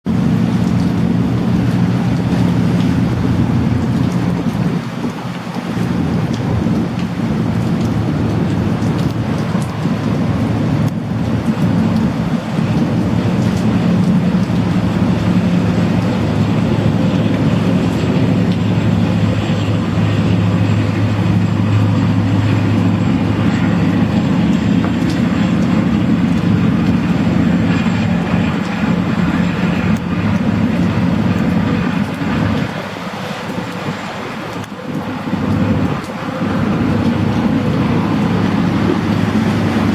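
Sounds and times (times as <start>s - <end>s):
ferry engine drone: 0.0s - 39.9s
wind and water rushing: 0.0s - 39.9s.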